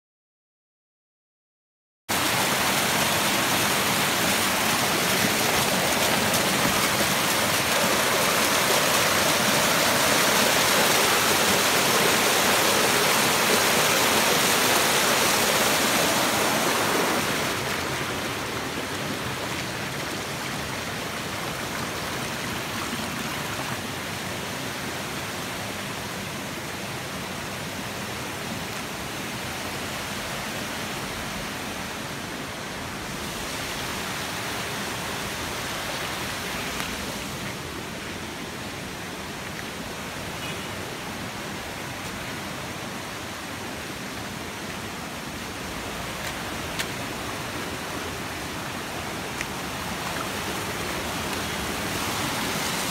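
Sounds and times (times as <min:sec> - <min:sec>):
stream rushing over rocks: 0:02.1 - 0:52.9.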